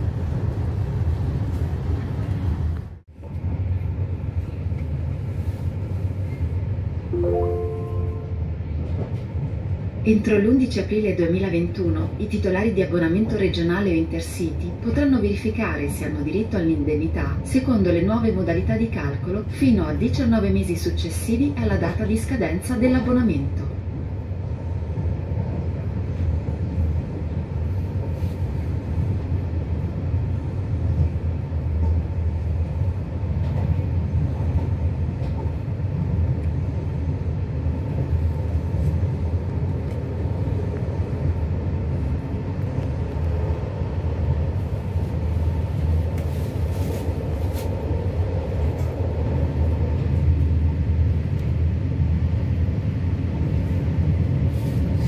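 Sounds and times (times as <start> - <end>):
train rumbling inside carriage: 0.0 - 55.0.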